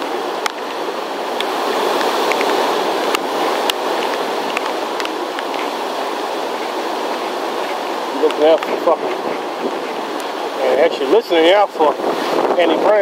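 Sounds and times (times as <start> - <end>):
raindrops striking camera: 0.0 - 10.5
heavy rain: 0.0 - 13.0
strong wind: 0.0 - 13.0.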